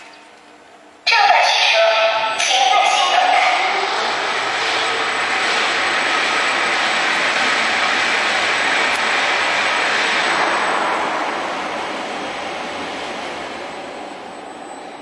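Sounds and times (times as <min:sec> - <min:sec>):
lift platform rushing: 0:02.0 - 0:14.2.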